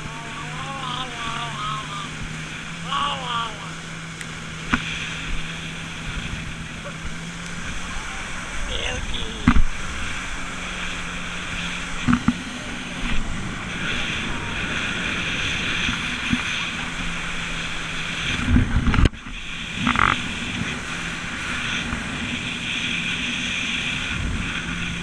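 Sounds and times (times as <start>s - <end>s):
hull slamming over waves: 0.0s - 25.0s
jet ski engine running: 0.0s - 25.0s
wind and water spray rushing: 0.0s - 25.0s.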